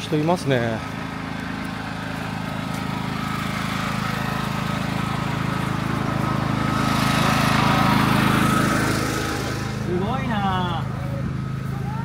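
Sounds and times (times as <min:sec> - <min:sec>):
small engine throbbing: 0:00.0 - 0:12.0.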